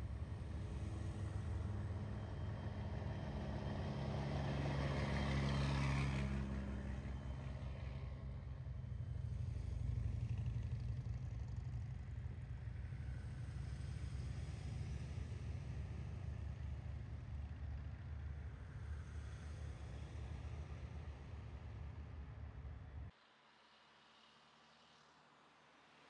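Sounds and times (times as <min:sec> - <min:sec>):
low rumble of vehicle engines: 0:00.0 - 0:23.2.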